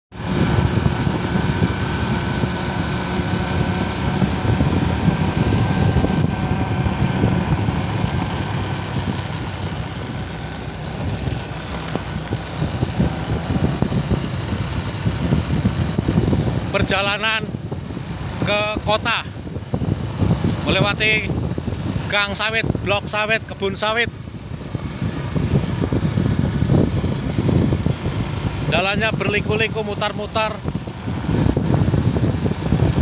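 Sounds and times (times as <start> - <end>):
vehicle rumble: 0.1 - 33.0
faint whining tones: 0.2 - 33.0.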